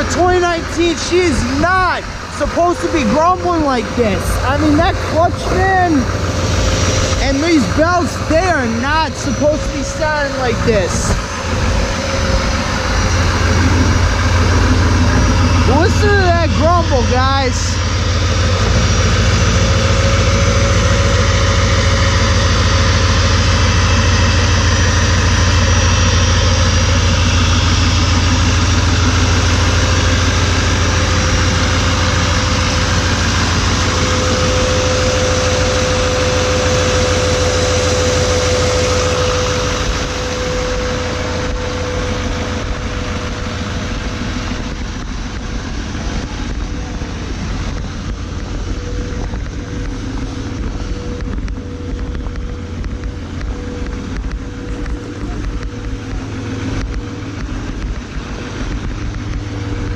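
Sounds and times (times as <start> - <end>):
diesel engine running: 0.0 - 59.9
steady whine: 0.0 - 59.9.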